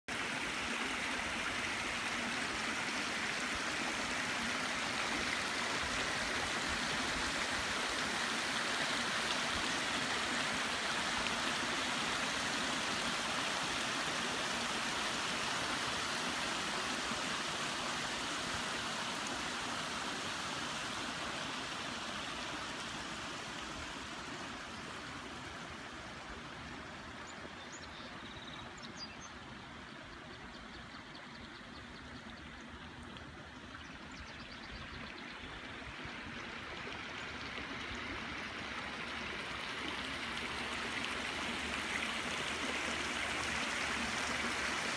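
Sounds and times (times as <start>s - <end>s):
waterfall splashing into pond: 0.1s - 27.5s, 35.3s - 44.9s.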